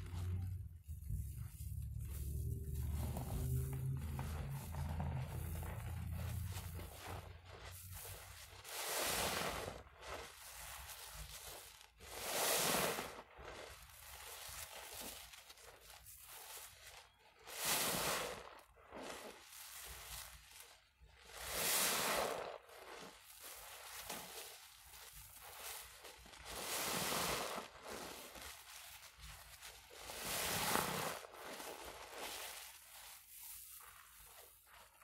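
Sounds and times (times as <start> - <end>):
wet sponges squelching: 0.0 - 35.0.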